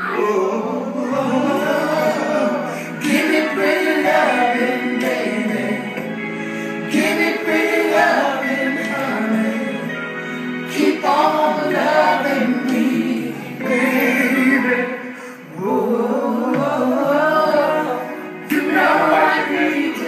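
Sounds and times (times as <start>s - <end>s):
people singing over chords: 0.0s - 20.0s.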